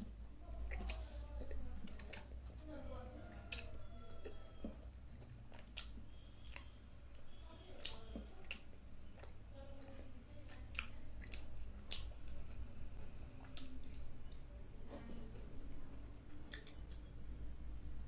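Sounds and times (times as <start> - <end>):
person chewing food: 0.0 - 17.2.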